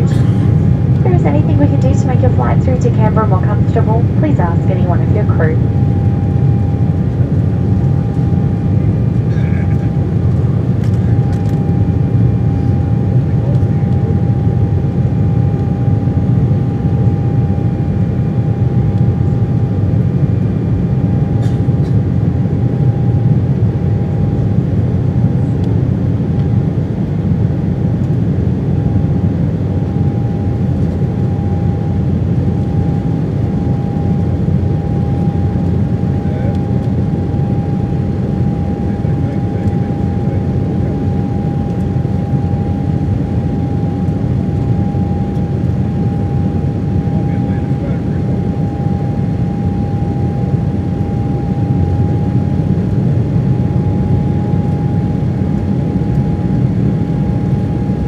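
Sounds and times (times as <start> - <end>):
thin steady whine: 0.0 - 21.4, 27.2 - 58.0
jet engine deep rumble: 0.0 - 58.0.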